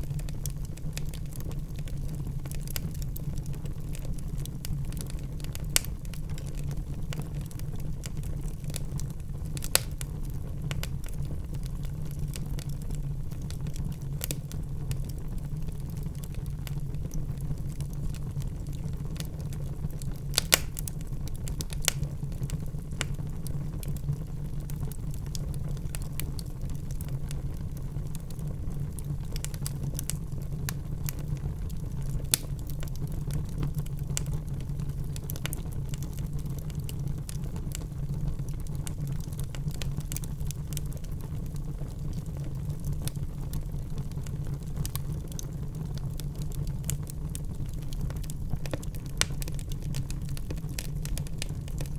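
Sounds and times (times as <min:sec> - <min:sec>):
low fire rumble: 0:00.0 - 0:51.9
wood fire crackling: 0:00.0 - 0:51.9.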